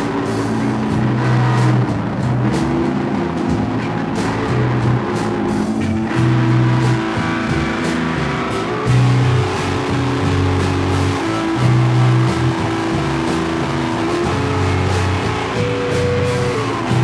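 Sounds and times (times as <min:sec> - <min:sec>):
held low guitar notes: 0:00.0 - 0:17.0
rock band playing live: 0:00.0 - 0:17.0.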